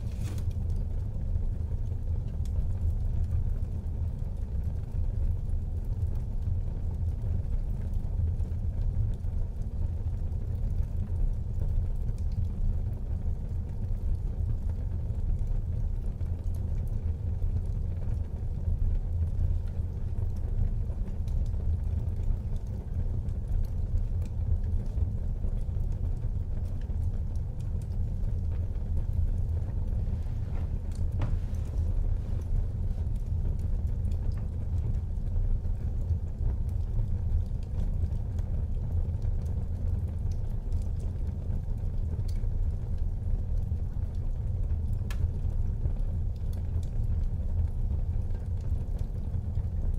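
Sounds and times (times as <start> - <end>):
faint fire crackles: 0.0 - 49.9
fire flames rumbling: 0.0 - 49.9.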